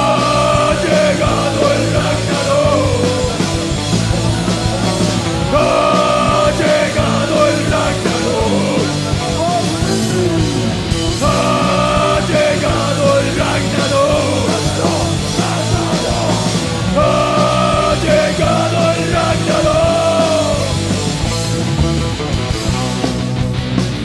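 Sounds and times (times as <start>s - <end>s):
heavy metal band playing live: 0.0s - 24.0s.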